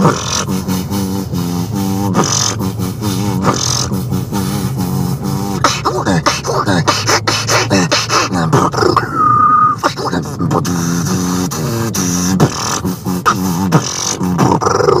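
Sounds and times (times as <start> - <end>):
beatboxing vocal percussion: 0.0 - 15.0
gliding vocal sweeps: 0.0 - 15.0
hummed bass line: 0.0 - 15.0.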